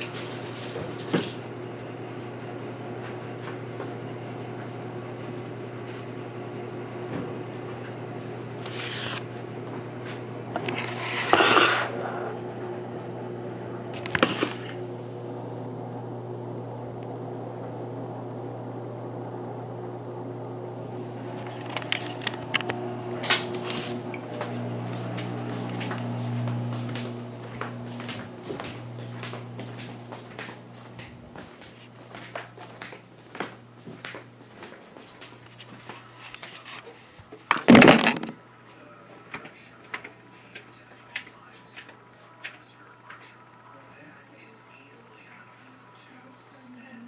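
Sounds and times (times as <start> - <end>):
steady low hum: 1.4 - 47.0.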